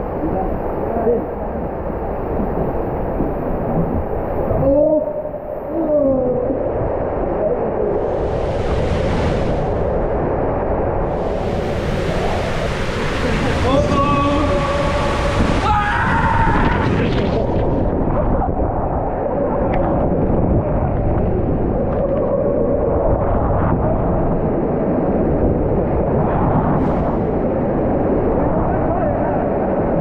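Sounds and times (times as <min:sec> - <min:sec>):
water roaring in slide tube: 0:00.0 - 0:30.0.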